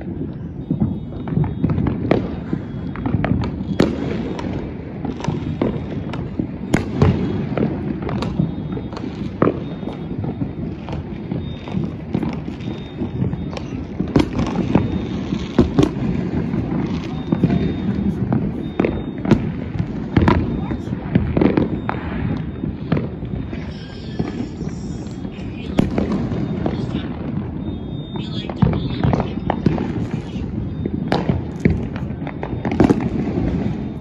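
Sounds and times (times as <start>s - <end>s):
rumble of firework bangs: 0.0s - 34.0s.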